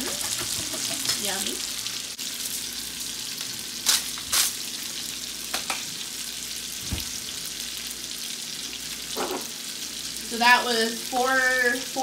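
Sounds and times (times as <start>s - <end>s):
sausage sizzling in a frying pan: 0.0s - 12.0s.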